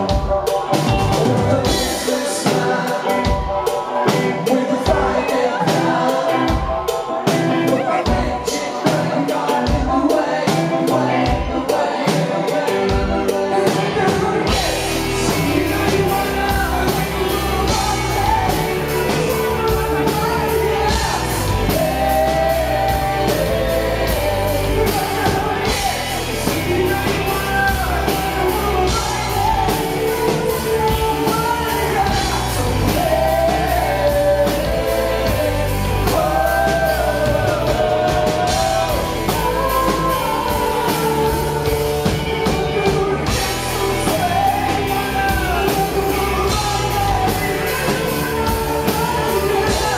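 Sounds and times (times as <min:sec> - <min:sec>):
live pop-rock band: 0:00.0 - 0:49.9
person singing: 0:00.0 - 0:49.9.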